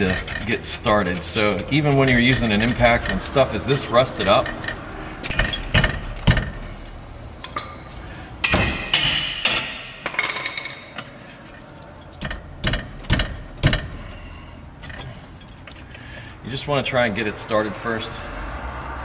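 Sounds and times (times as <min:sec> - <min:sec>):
wrench clinking against metal: 0:00.0 - 0:17.0
metallic scraping: 0:00.0 - 0:19.0.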